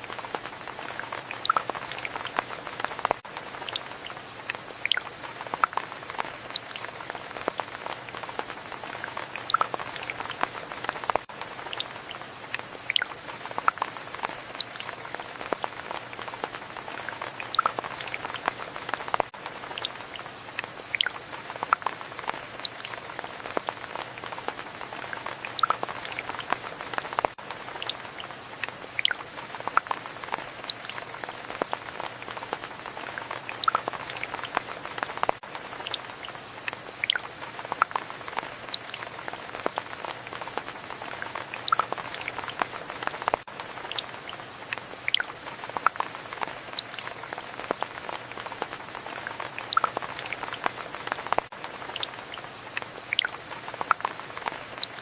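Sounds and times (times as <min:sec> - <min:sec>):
raindrops pattering close: 0:00.0 - 0:55.0
steady rain: 0:00.0 - 0:55.0.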